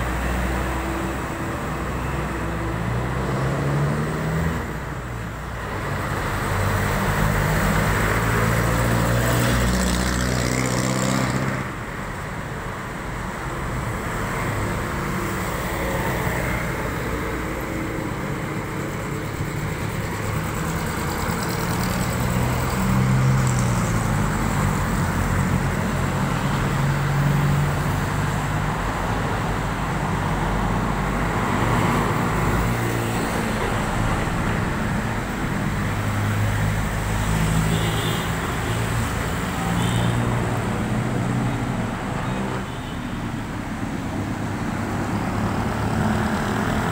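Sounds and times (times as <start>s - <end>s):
cars passing: 0.0s - 46.9s.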